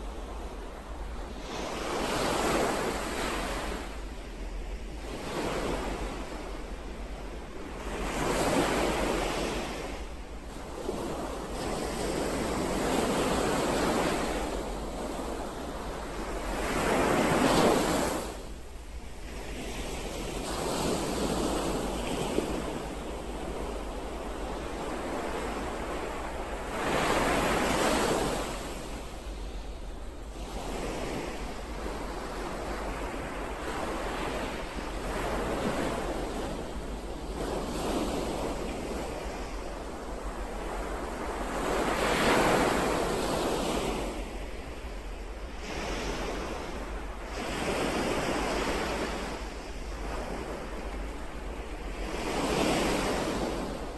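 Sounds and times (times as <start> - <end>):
ocean waves breaking: 4.7 - 53.9.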